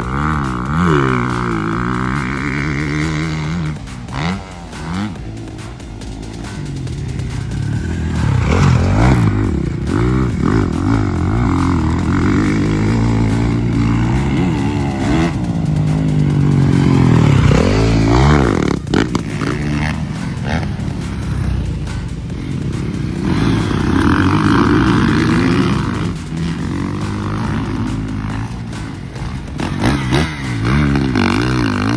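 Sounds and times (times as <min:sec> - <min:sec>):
dirt bike engines revving: 0:00.0 - 0:31.9.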